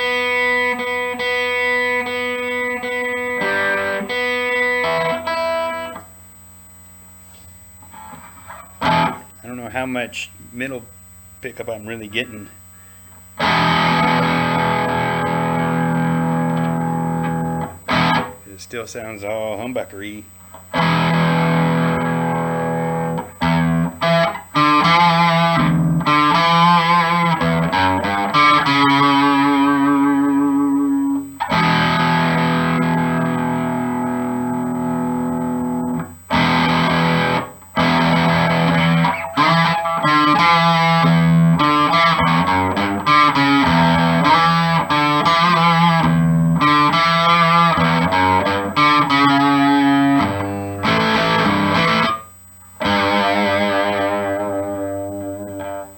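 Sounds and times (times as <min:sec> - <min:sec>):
distorted electric guitar: 0:00.0 - 0:55.9.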